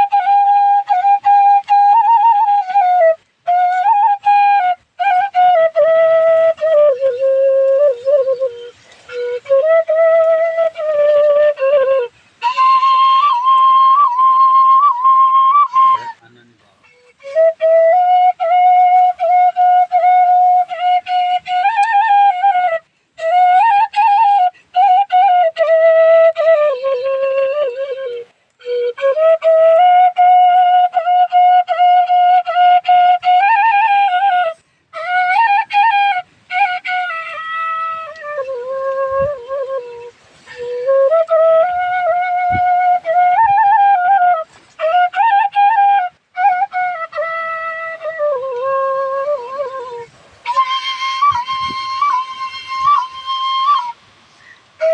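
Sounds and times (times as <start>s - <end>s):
bamboo flute melody: 0.0s - 54.9s.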